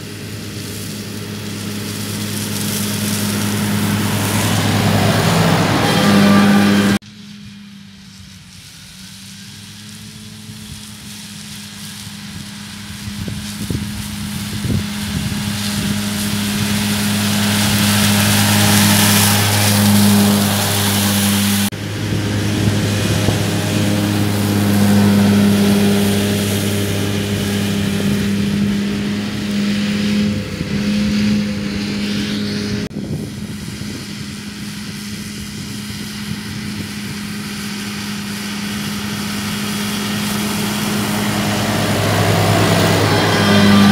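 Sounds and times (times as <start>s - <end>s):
mower rushing through grass: 0.0s - 43.9s
tractor engine hum: 0.0s - 43.9s.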